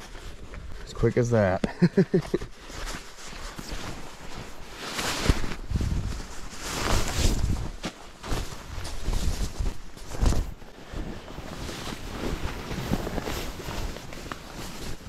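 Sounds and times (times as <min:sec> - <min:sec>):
sleeping bag rustling: 0:00.0 - 0:15.0.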